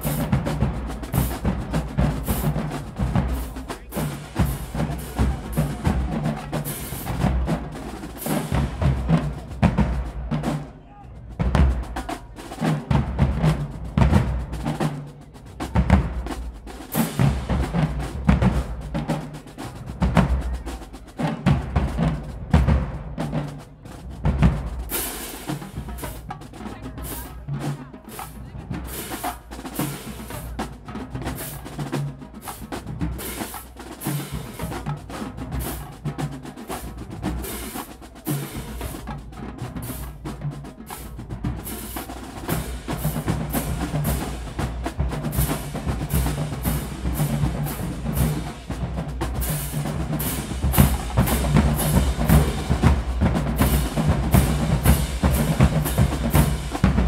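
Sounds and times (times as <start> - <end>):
bass drums: 0.0 - 27.4, 28.3 - 57.0
snare drums: 0.0 - 57.0.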